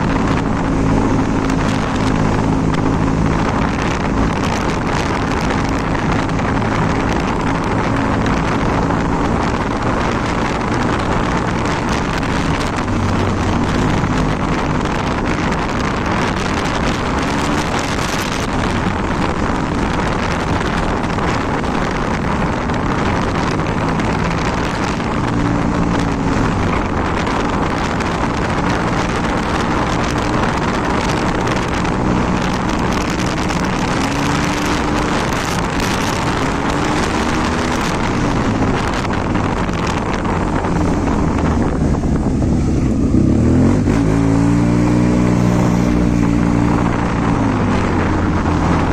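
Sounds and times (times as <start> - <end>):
scooter engine: 0.0 - 48.9
wind rushing over microphone: 0.0 - 48.9.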